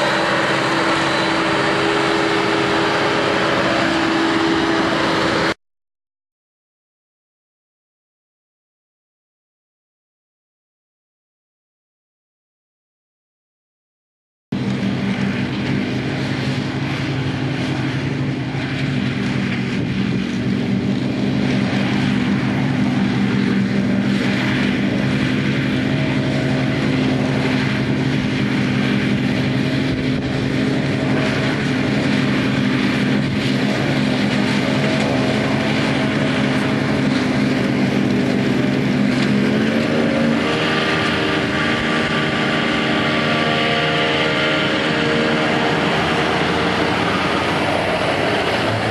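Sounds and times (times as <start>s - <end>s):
diesel engine running under load: 0.0s - 5.6s, 14.5s - 48.9s.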